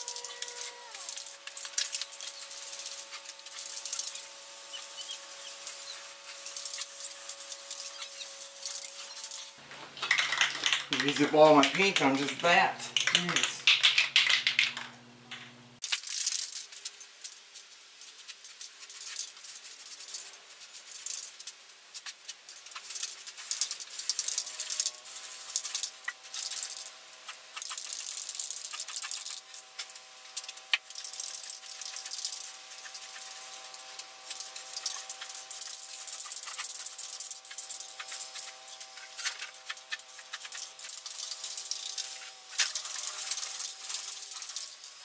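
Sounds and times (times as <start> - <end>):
spray can rattling: 0.2 - 45.0.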